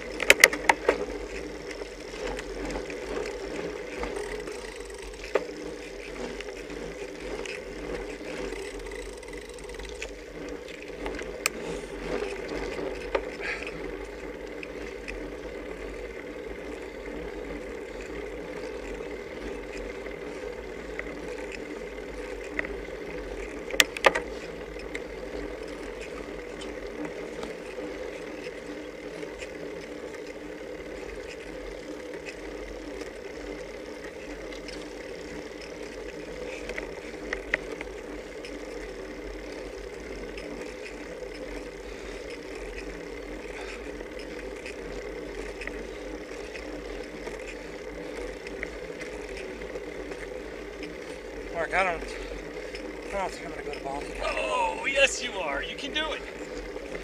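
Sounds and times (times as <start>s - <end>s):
bicycle road and wind noise: 0.0s - 57.0s.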